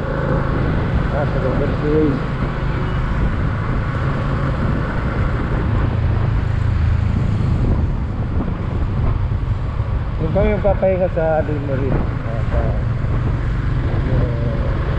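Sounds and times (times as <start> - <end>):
motorcycle engine drone: 0.0 - 14.9
road noise: 0.0 - 14.9
wind rushing over microphone: 0.0 - 14.9.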